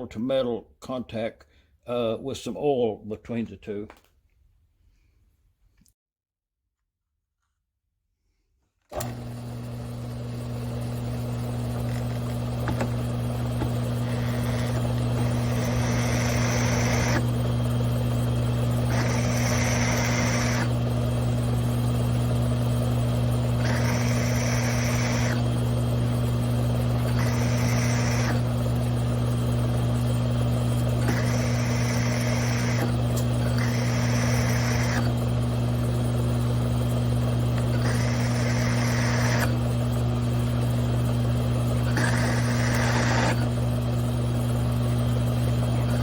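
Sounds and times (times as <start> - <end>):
mill-drill motor humming: 8.9 - 46.0
drill bit cutting metal: 9.0 - 46.0.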